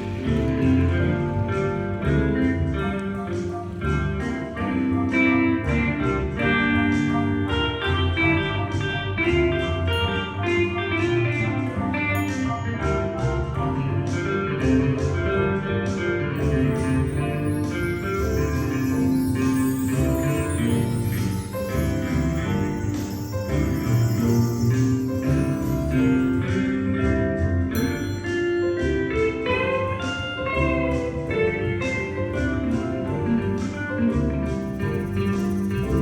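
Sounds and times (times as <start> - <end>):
bass: 0.0 - 36.0
electric guitar: 0.0 - 36.0
piano: 0.0 - 36.0.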